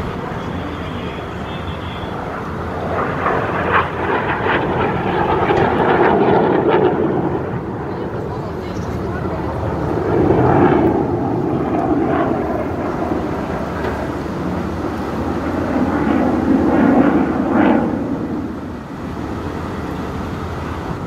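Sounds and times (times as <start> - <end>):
fighter jet engine roar: 0.0 - 21.0.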